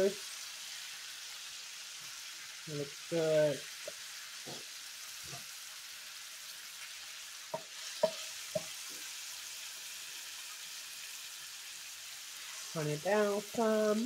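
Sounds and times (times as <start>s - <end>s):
meat sizzling in a skillet: 0.0s - 14.0s.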